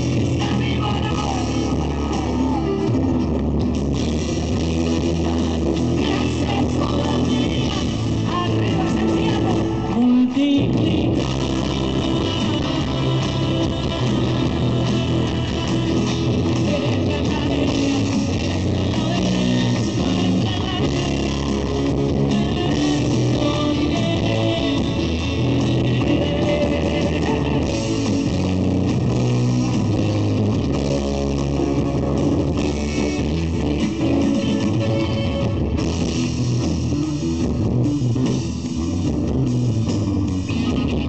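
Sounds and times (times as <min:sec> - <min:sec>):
electric bass: 0:00.0 - 0:41.0
keyboards: 0:00.0 - 0:41.0.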